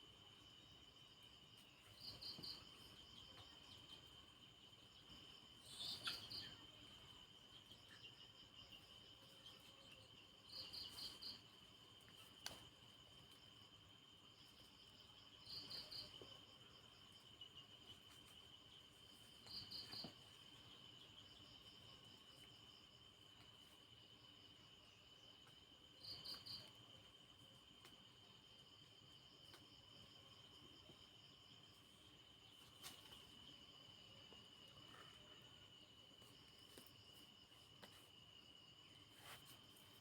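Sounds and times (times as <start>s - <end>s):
cricket trill: 0.0s - 40.0s
insect chirp: 0.0s - 40.0s.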